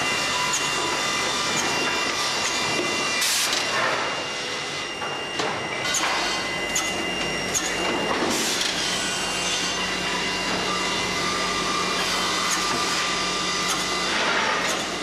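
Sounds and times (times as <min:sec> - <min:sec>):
saw machinery humming: 0:00.0 - 0:15.0.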